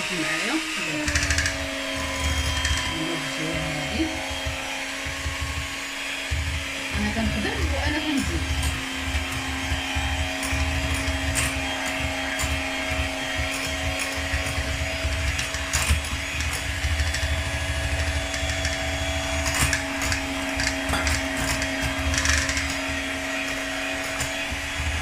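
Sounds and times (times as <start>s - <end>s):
electric mixer running: 0.0s - 25.0s
beaters knocking against bowl: 1.1s - 25.0s.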